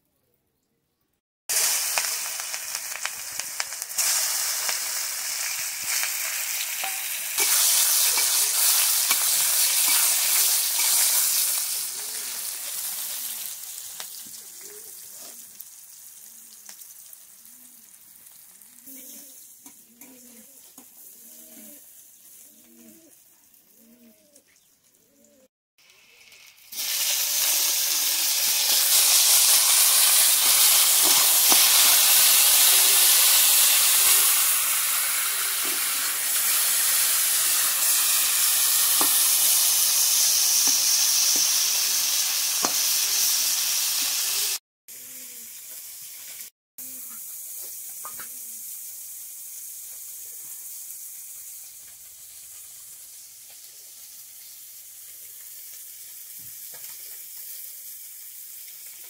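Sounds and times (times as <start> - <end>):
fish sizzling in hot oil: 1.5 - 18.8, 25.8 - 44.6, 45.4 - 59.0.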